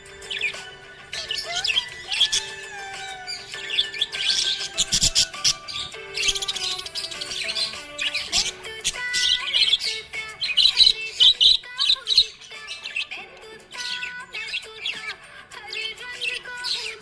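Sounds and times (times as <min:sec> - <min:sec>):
background music with held notes: 0:00.0 - 0:17.0
budgerigars chirping: 0:00.0 - 0:17.0.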